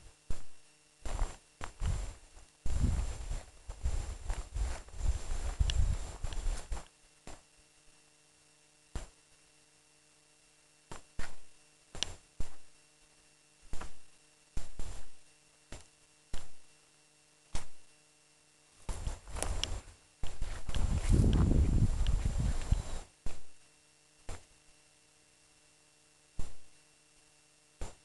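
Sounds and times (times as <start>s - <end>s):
faint electrical hum: 0.0s - 28.0s.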